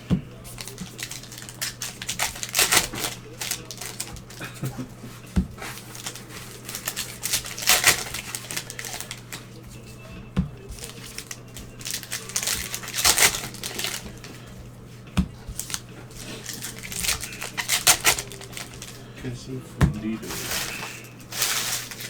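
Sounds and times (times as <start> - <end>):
card packaging crinkling: 0.0 - 22.0.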